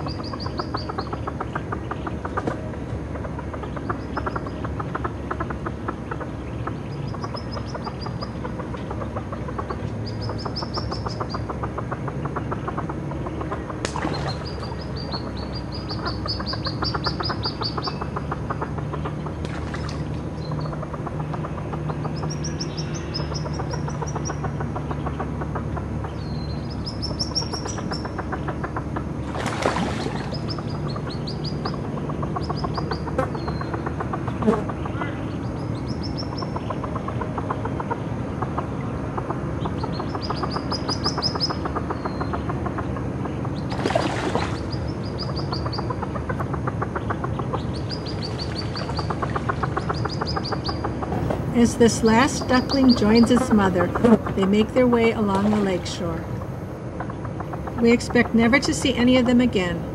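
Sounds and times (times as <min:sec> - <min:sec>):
ducklings peeping: 0:00.0 - 0:59.9
steady low rumble: 0:00.0 - 0:59.9.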